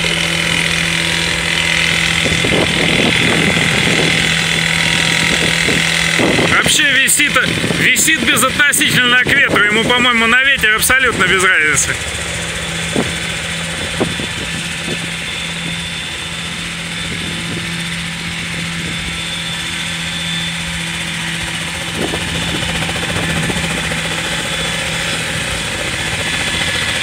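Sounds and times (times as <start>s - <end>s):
helicopter hovering: 0.0s - 27.0s.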